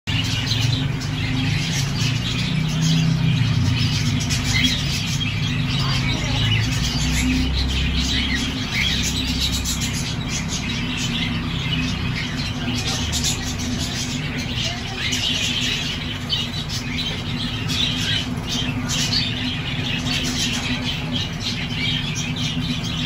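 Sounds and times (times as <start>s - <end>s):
lovebirds chirping: 0.1s - 23.0s.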